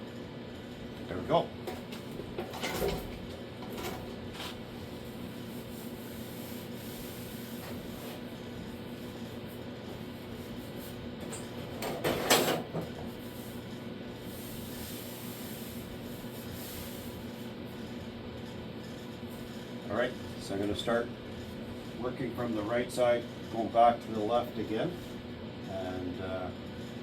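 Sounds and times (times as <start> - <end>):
workshop hum: 0.0 - 27.0.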